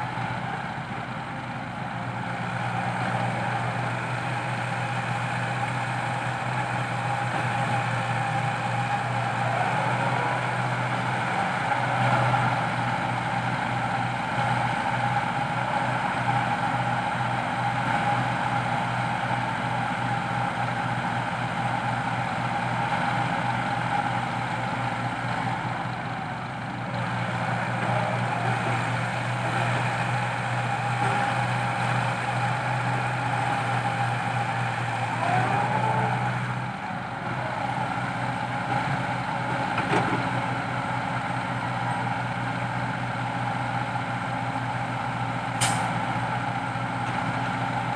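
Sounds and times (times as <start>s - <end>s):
excavator diesel engine: 0.0s - 47.9s.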